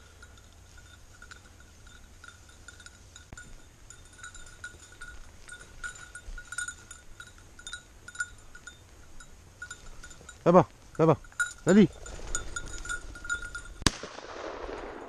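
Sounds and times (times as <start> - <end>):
collar bell tinkling: 0.0 - 13.9.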